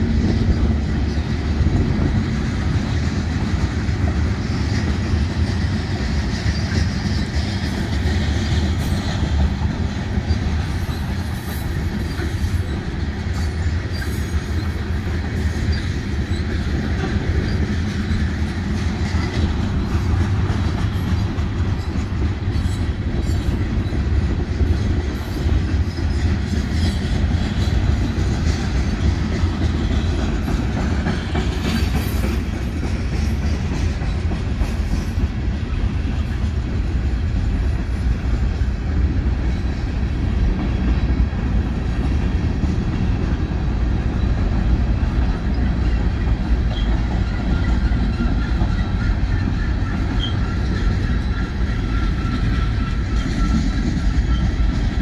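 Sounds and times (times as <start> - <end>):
freight train rolling past: 0.0 - 55.0
steel wheels clicking on rails: 0.0 - 55.0.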